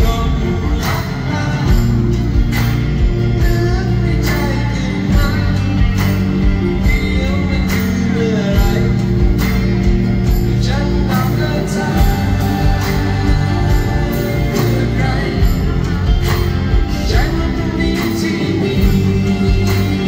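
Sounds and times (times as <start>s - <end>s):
band with acoustic guitar and drums: 0.0s - 20.0s
man singing: 0.0s - 20.0s.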